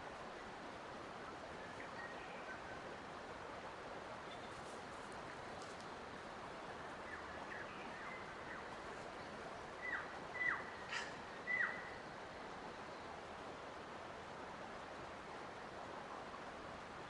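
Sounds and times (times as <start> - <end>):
rushing water or wind: 0.0 - 17.0.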